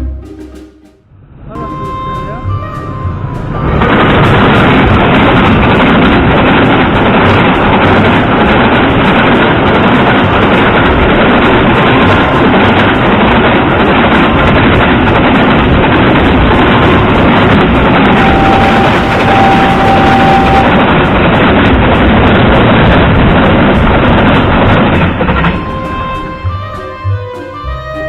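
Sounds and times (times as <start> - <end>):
freight train passing: 0.0 - 28.0
wind buffeting microphone: 1.2 - 28.0.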